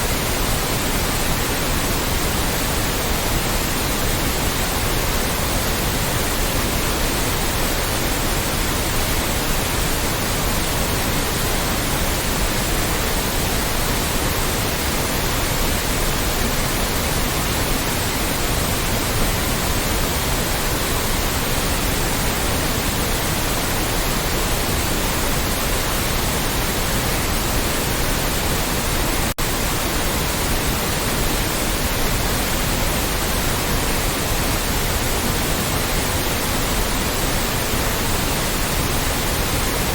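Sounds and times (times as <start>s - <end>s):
loud white noise: 0.0s - 39.9s.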